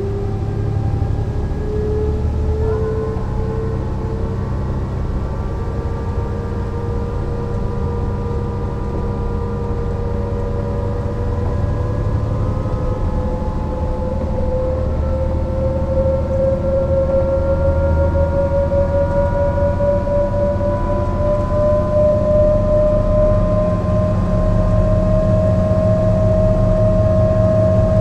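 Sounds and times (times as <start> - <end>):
bus diesel engine rumble: 0.0 - 28.0
drivetrain whine rising: 0.0 - 28.0.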